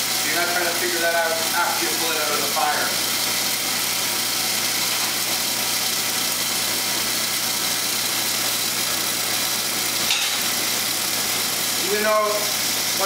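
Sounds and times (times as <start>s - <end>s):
air blower rushing: 0.0s - 13.0s.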